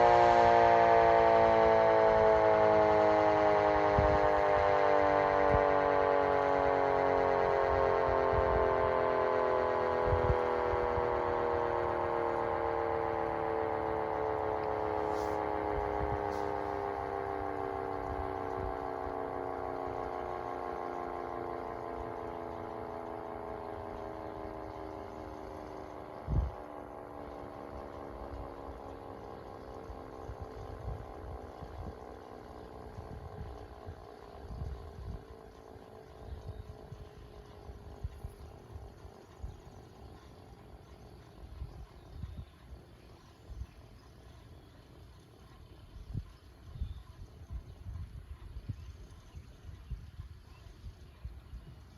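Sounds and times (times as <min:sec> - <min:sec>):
mechanical siren winding down: 0:00.0 - 0:51.9.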